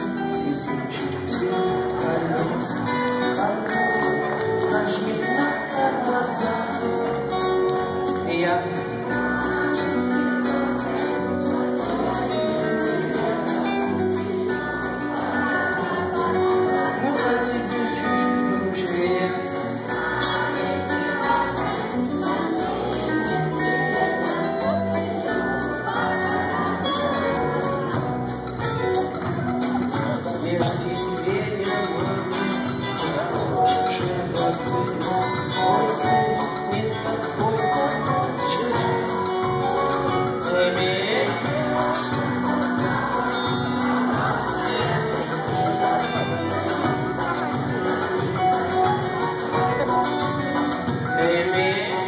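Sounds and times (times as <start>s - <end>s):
live band music: 0.0s - 52.0s.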